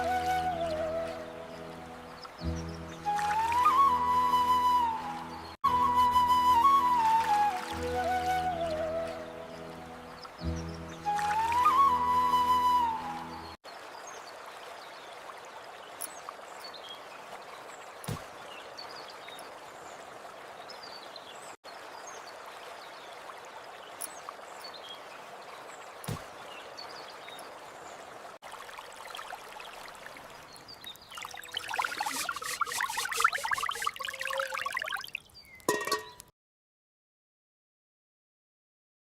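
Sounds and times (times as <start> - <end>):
water pouring and splashing: 0.0 - 5.3, 6.6 - 10.5, 11.1 - 12.5, 13.6 - 36.3
running water: 0.0 - 36.3.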